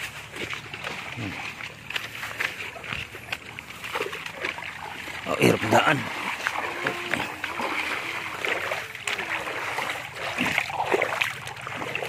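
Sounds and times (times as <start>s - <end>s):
footsteps through brush: 0.0s - 10.5s
river water running: 0.0s - 12.0s.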